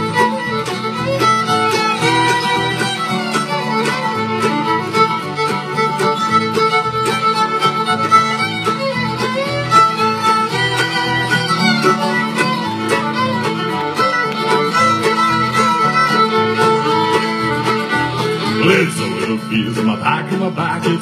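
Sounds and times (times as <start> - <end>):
bluegrass band playing: 0.0 - 21.0
fiddle melody: 0.0 - 21.0.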